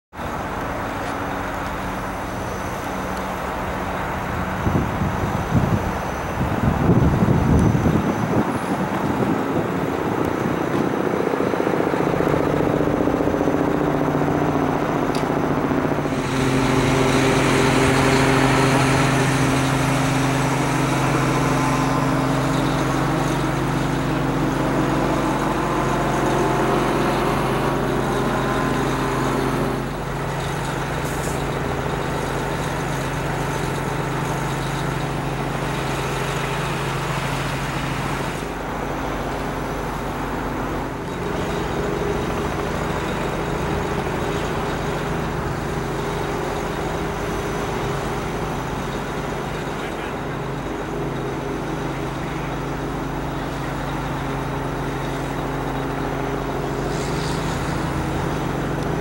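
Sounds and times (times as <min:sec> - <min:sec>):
heavy vehicle engine idling: 0:00.1 - 0:59.0
road traffic noise: 0:00.1 - 0:59.0.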